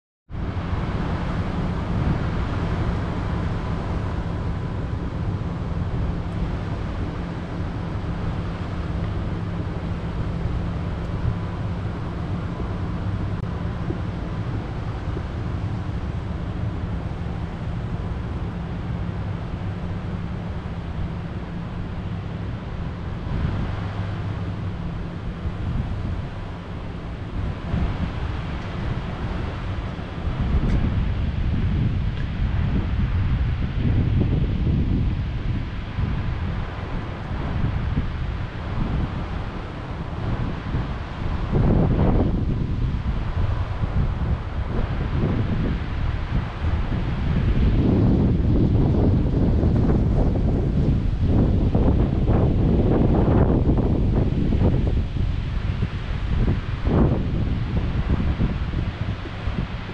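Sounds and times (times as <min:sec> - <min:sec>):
constant low hum: 0:00.3 - 0:59.9
wind blowing across microphone: 0:00.3 - 0:59.9.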